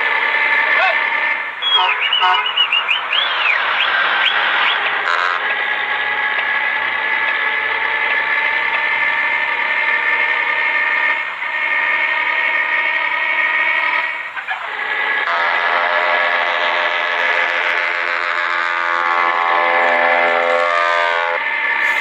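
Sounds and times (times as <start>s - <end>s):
loud diesel truck engine drone: 0.0s - 22.0s.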